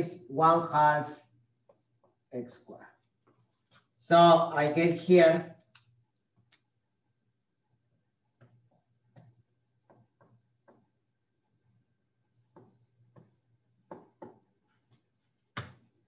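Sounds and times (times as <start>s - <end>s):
marker writing on whiteboard: 0.0s - 16.0s.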